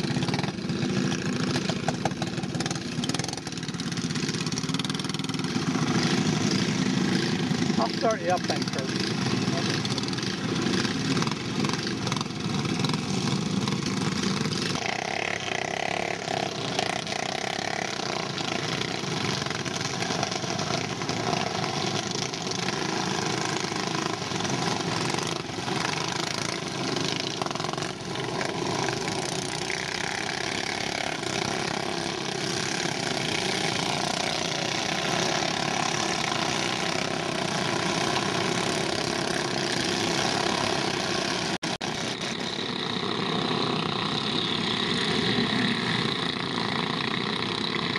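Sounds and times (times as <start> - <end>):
go-kart engine running: 0.0 - 47.9.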